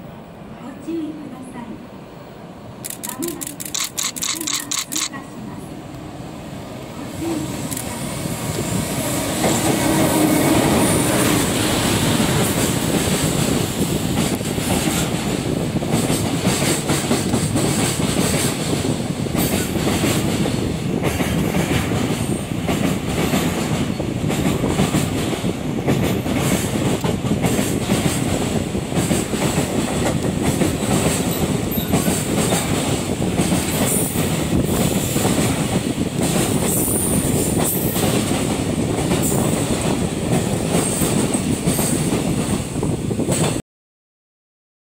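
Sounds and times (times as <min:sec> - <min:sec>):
electric locomotive passing: 0:00.0 - 0:43.6
freight train wheel and rail noise: 0:00.0 - 0:43.6.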